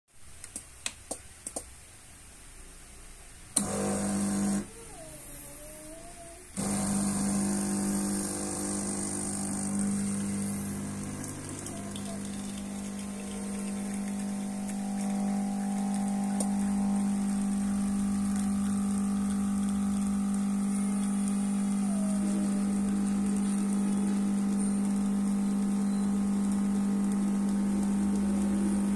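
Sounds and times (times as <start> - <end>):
espresso machine pump humming: 3.6 - 4.7, 6.6 - 28.9.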